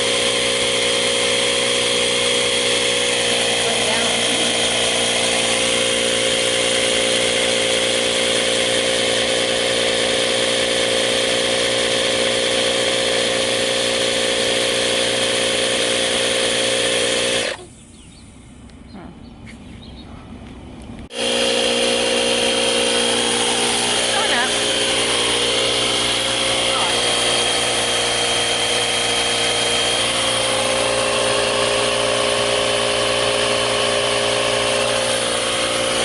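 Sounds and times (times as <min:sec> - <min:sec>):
tire compressor droning: 0:00.0 - 0:18.9, 0:19.8 - 0:36.0.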